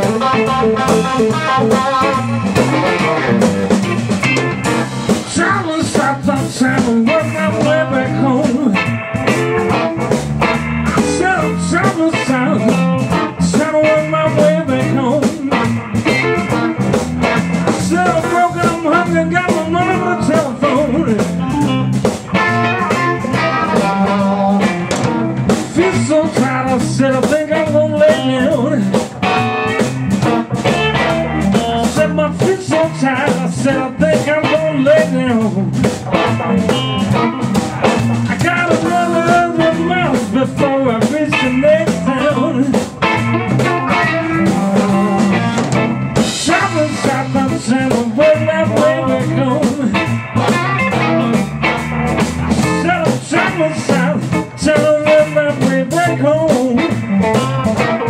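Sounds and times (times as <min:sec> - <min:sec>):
drum kit: 0:00.0 - 0:58.0
electric guitar: 0:00.0 - 0:58.0
person singing: 0:05.1 - 0:09.9, 0:10.9 - 0:16.6, 0:17.7 - 0:37.4, 0:38.2 - 0:51.4, 0:52.6 - 0:58.0.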